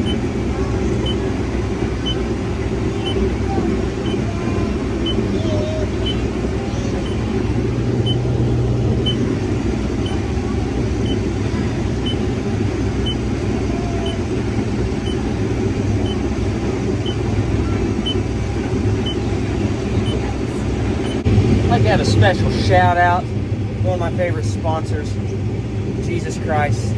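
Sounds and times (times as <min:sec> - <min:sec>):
combine harvester droning: 0:00.0 - 0:26.9.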